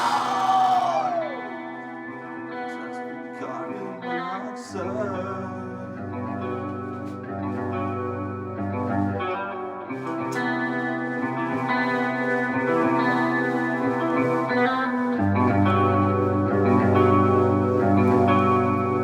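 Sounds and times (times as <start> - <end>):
electric guitar ringing chords: 0.0 - 19.0.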